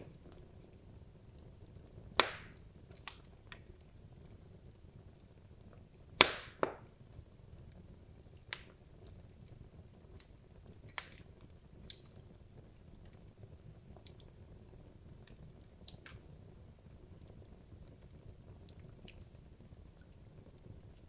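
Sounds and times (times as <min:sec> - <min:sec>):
wood logs crackling in fireplace: 0:00.0 - 0:21.0.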